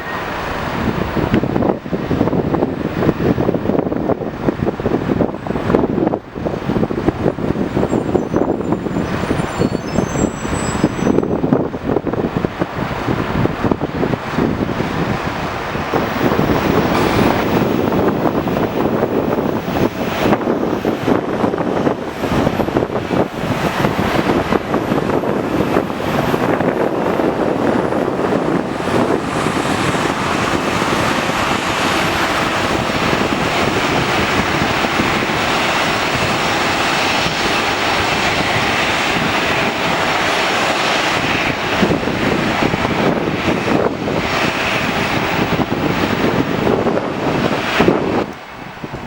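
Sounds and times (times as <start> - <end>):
airliner engines passing by: 0.0 - 49.0
wind buffeting microphone: 0.0 - 49.0.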